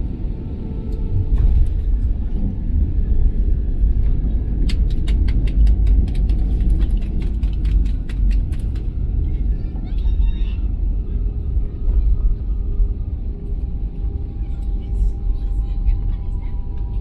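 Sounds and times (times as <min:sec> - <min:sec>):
heavy low rumble: 0:00.0 - 0:17.0.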